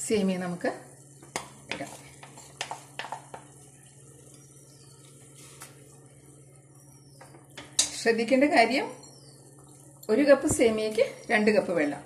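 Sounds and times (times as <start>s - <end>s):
water bubbling in a pan: 0.0s - 12.0s.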